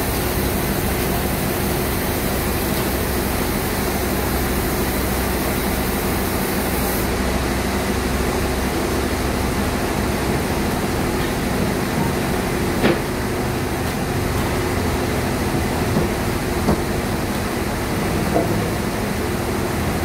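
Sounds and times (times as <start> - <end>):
band sawmill running: 0.0 - 20.0.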